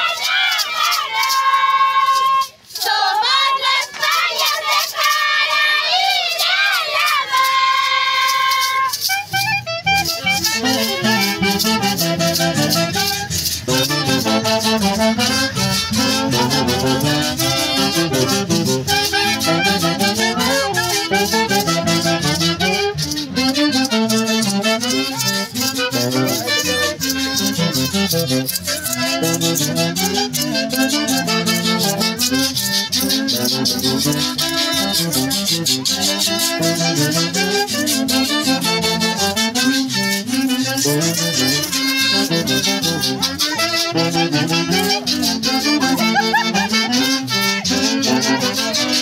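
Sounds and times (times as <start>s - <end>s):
rattling percussion: 0.0s - 49.0s.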